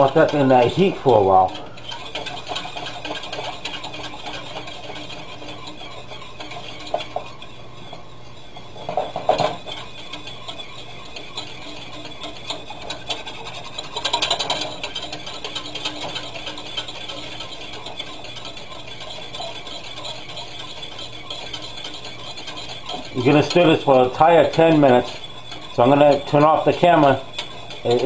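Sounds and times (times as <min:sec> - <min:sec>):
utensil scraping saucepan: 0:00.0 - 0:28.0.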